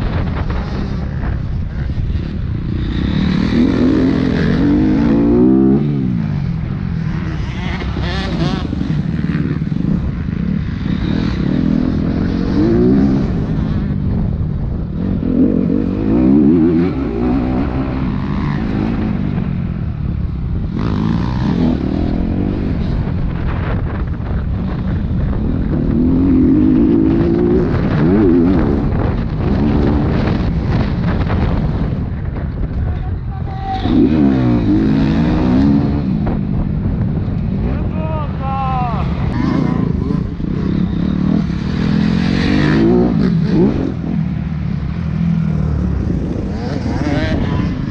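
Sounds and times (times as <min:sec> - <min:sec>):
dirt bike engine revving: 0:00.0 - 0:32.1, 0:33.7 - 0:47.9.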